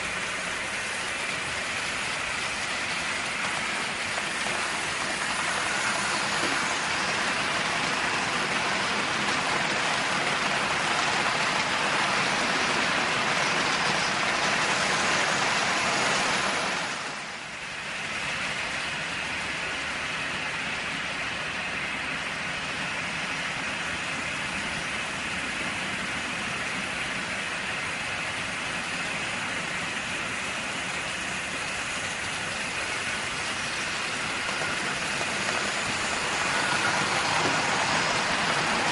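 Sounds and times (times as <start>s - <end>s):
model train rolling on track: 0.0s - 38.9s.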